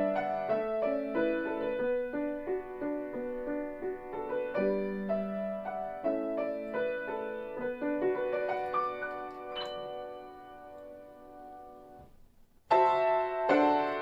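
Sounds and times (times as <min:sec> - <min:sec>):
slow gentle solo piano: 0:00.0 - 0:14.0.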